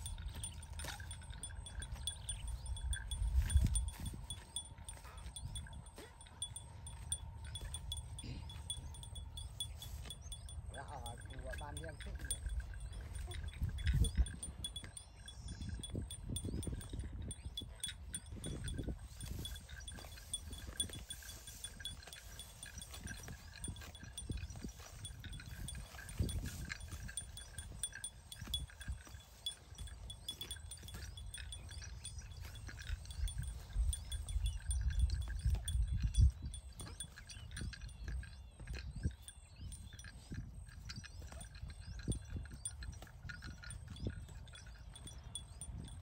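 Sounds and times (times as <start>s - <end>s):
cattle munching grass: 0.0s - 38.3s
high-pitched ringing: 0.0s - 46.0s.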